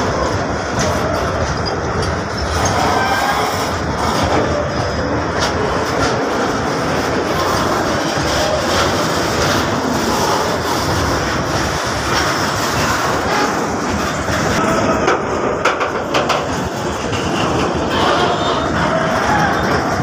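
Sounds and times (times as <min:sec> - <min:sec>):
freight train wheels rumbling: 0:00.0 - 0:20.0
wheels clacking over rail joints: 0:00.0 - 0:20.0.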